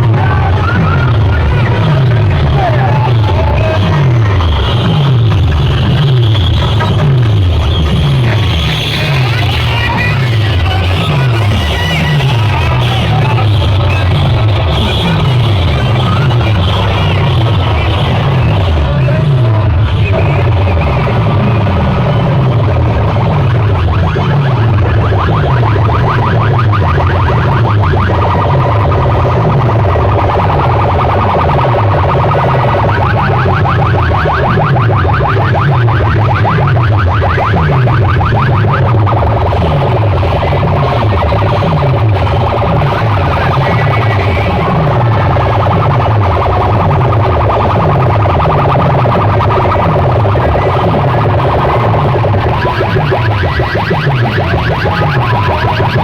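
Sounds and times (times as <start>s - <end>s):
electronic siren sound effect: 0.0s - 56.0s
loud distorted dance music: 0.0s - 56.0s
pulsing heavy bass: 0.0s - 56.0s.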